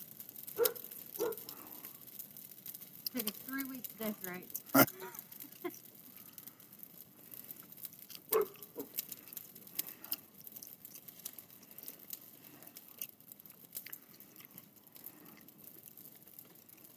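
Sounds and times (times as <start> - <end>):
burning greenery crackling and popping: 0.0 - 16.9.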